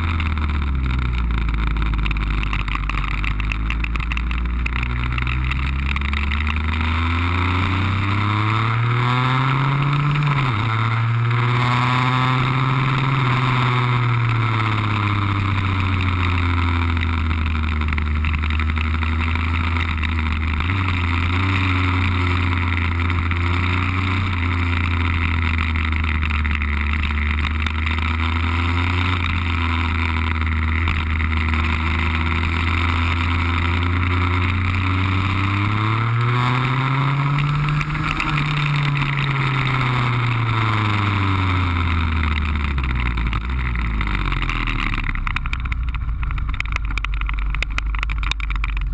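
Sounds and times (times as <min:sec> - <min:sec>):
scooter two-stroke engine: 0:00.0 - 0:48.9.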